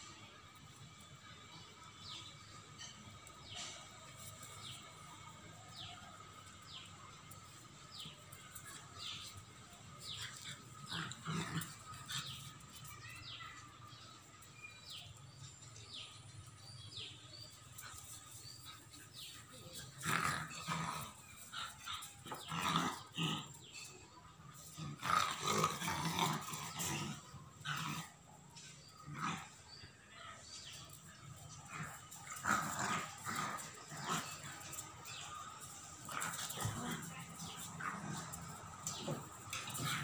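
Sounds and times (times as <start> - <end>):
dogs growling and yelping: 2.0 - 16.8, 17.4 - 40.0.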